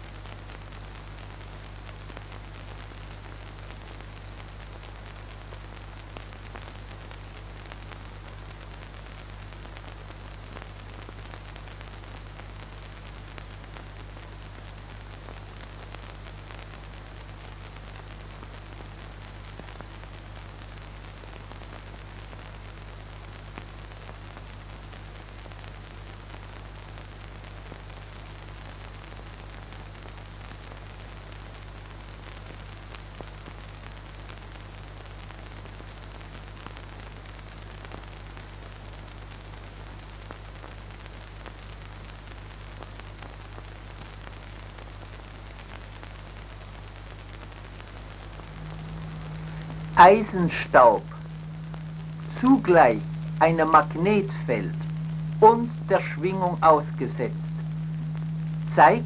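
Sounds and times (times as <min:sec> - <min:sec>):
low mains hum: 0:00.0 - 0:59.0
steady hiss: 0:00.0 - 0:59.0.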